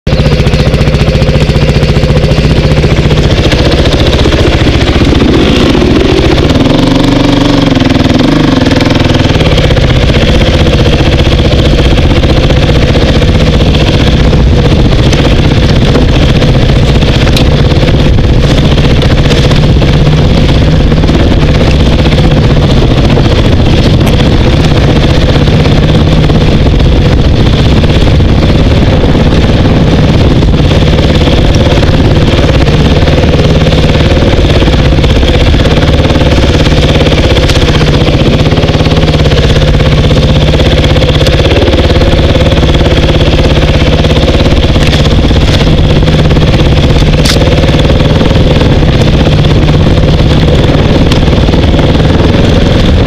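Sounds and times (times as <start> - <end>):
dirt bike engine revving: 0.1 - 53.0.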